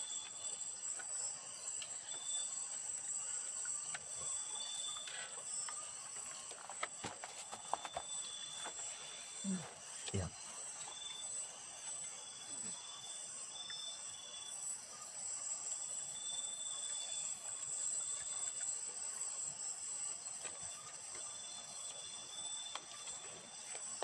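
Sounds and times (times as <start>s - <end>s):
insects buzzing high-pitched: 0.0s - 24.0s
lower insect trill: 0.0s - 24.0s.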